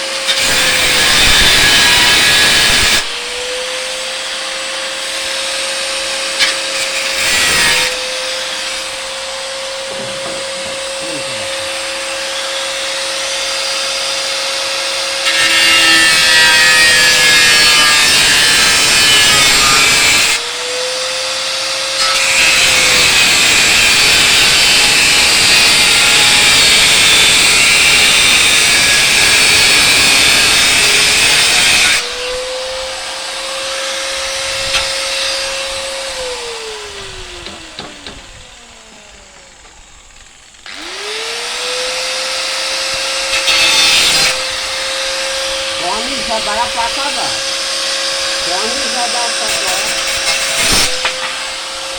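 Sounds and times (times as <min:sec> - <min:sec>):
harsh grinding of disc cutting: 0:00.0 - 0:03.5, 0:04.3 - 0:20.8, 0:21.6 - 0:51.9
grinder whining: 0:00.0 - 0:51.9.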